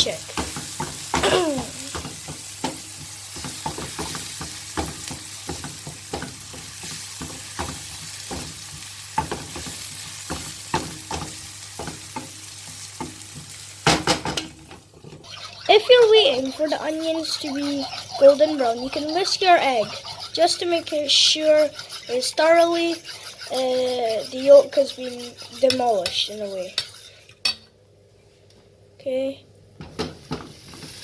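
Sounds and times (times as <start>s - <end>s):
onions sizzling in hot oil: 0.0s - 27.2s, 29.8s - 31.0s
spoon stirring in pan: 0.0s - 27.7s.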